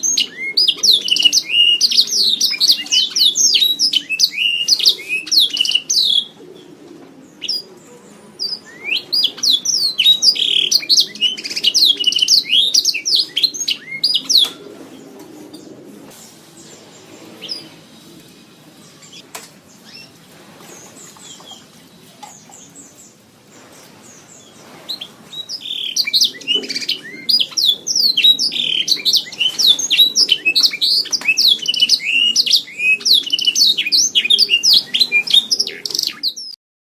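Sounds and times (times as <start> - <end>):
canary singing: 0.0 - 20.2, 24.1 - 36.6.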